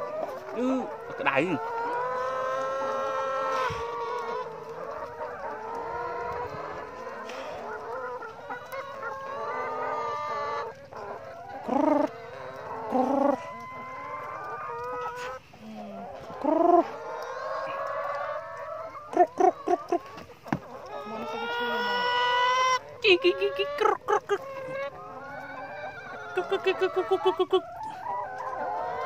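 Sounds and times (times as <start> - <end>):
hens clucking and calling: 0.0 - 29.0.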